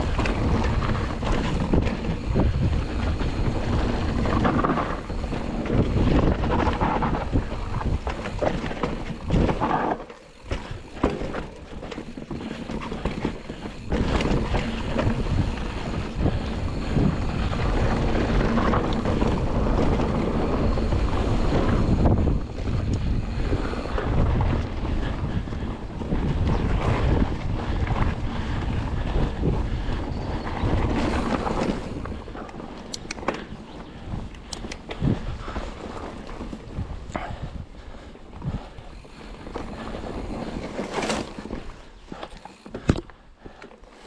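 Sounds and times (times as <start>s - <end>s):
wind buffeting microphone: 0.0s - 43.6s
bike knocking and rattling: 0.0s - 44.0s
tyres on dirt and rock: 0.0s - 44.0s.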